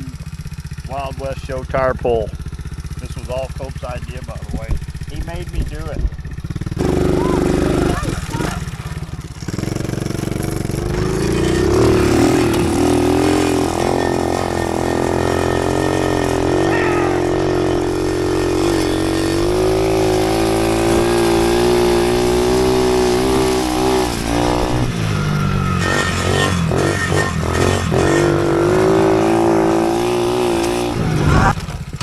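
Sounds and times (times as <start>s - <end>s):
small vehicle engine under load: 0.0s - 32.0s.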